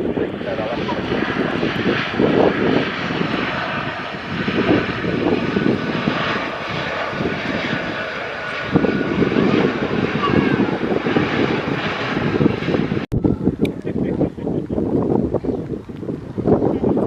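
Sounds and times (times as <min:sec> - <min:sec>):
aircraft engines roaring: 0:00.0 - 0:17.0
wind buffeting microphone: 0:00.0 - 0:17.0.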